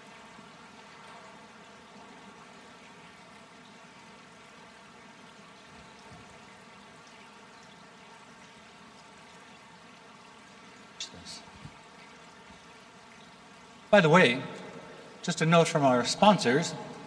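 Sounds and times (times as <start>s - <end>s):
low microphone hiss: 0.0s - 17.0s.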